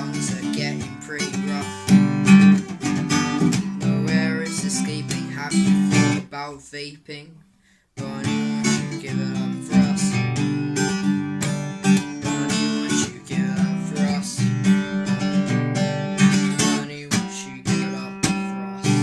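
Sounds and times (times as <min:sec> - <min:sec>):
acoustic guitar strumming: 0:00.0 - 0:06.6, 0:08.0 - 0:19.0.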